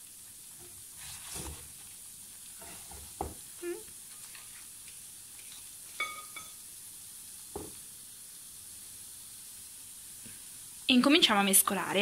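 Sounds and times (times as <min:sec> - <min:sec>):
sugar sizzling in saucepan: 0:00.0 - 0:12.0.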